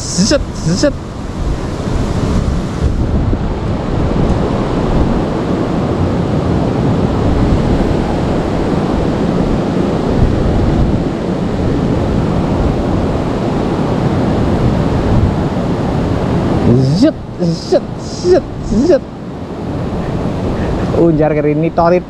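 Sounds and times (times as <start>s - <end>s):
wind buffeting microphone: 0.0s - 21.2s.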